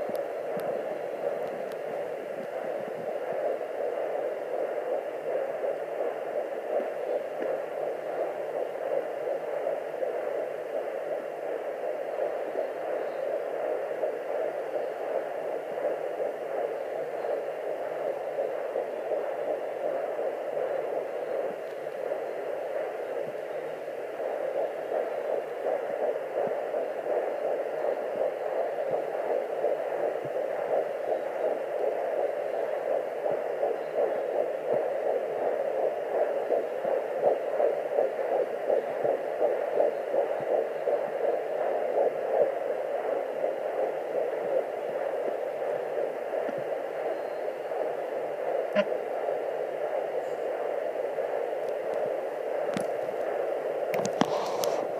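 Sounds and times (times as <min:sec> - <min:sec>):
fetal heartbeat whoosh on doppler: 0:00.0 - 0:54.9
steady doppler hiss: 0:00.0 - 0:54.9.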